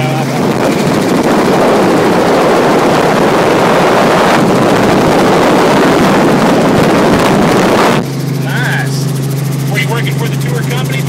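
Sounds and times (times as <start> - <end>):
helicopter rotor noise: 0.0 - 11.0.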